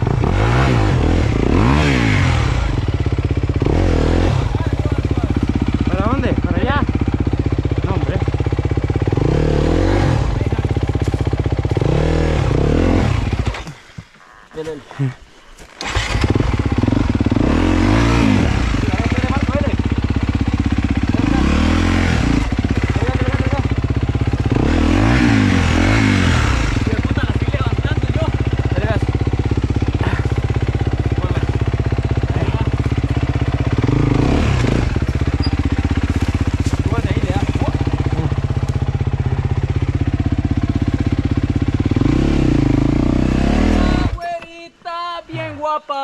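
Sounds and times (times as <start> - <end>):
dirt bike engine revving: 0.0 - 13.8, 15.8 - 44.2.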